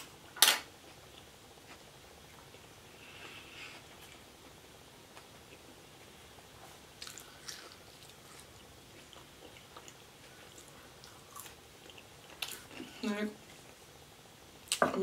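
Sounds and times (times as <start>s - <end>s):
person chewing: 0.9s - 13.0s.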